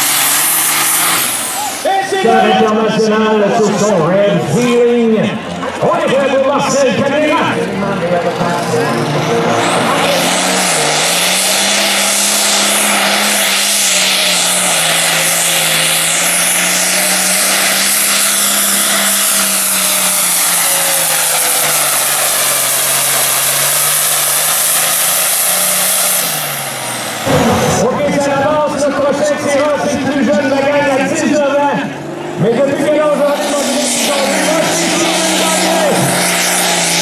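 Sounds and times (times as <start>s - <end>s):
tractor diesel engine at full load: 0.0s - 37.0s.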